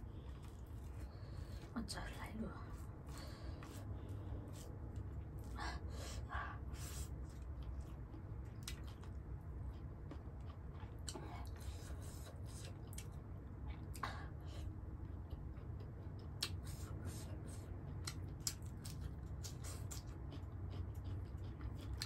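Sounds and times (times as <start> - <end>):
chewing: 0.0 - 1.7, 2.7 - 22.0
low hum: 0.0 - 22.0.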